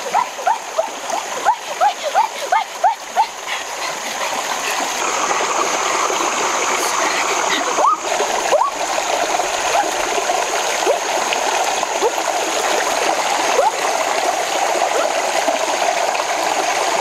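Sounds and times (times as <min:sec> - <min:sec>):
stream rushing over stones: 0:00.0 - 0:17.0
water gurgles: 0:00.0 - 0:17.0.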